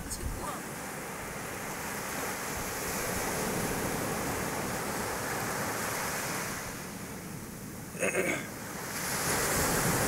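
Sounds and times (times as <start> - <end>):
small waves breaking on sand: 0.0 - 10.0.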